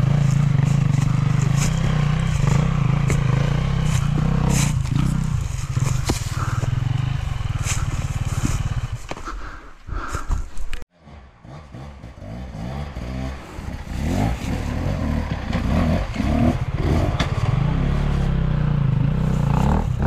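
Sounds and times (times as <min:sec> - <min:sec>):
dirt bike engine revving: 0:00.0 - 0:09.1, 0:11.0 - 0:20.0.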